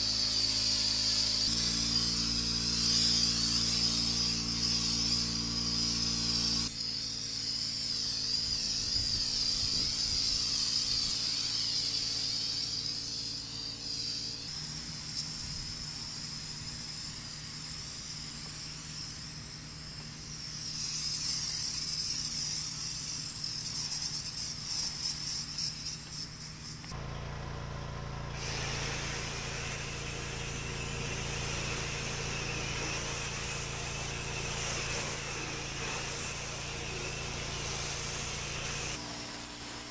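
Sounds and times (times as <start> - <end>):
high-pressure water spray: 0.0 - 27.0, 28.3 - 39.9
pressure washer engine drone: 0.0 - 39.9.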